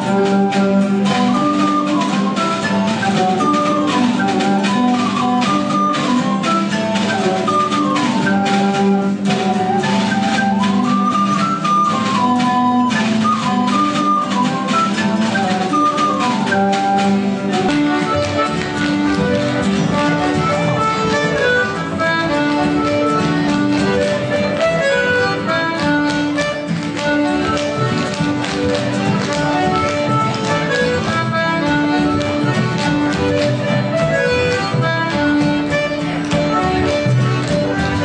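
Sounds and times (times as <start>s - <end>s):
folk band playing dance music: 0.0s - 38.0s.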